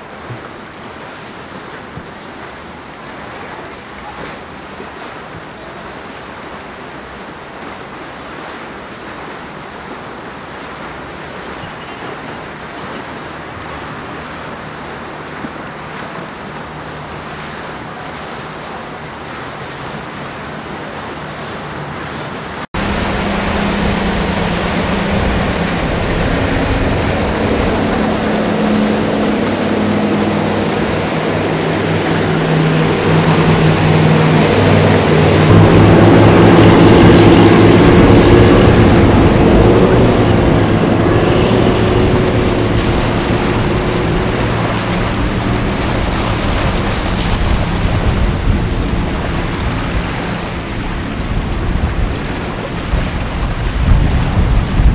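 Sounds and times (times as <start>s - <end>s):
powerboat engine: 0.0s - 54.9s
rushing water and spray: 0.0s - 54.9s.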